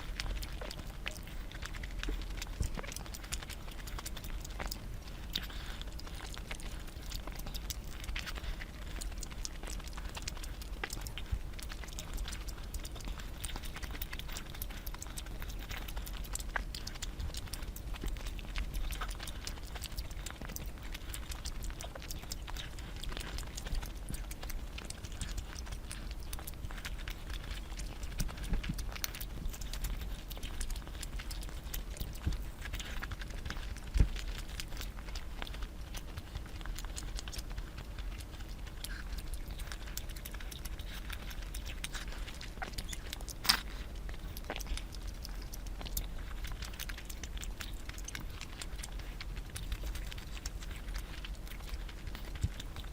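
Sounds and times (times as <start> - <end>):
faint low hum: 0.0 - 52.9
person chewing food: 0.0 - 52.9.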